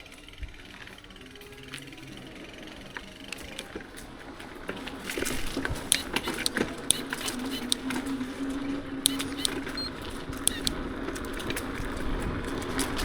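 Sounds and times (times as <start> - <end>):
bike freehub ticking: 0.0 - 4.1, 5.0 - 13.0
sharp clicks from bike: 0.0 - 13.0.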